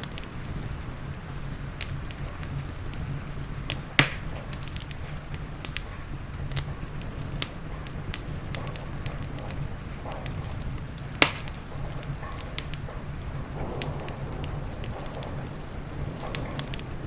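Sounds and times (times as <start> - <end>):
rain hiss: 0.0 - 17.0
wood fire crackling and popping: 0.0 - 17.0
low rumble: 0.6 - 17.0.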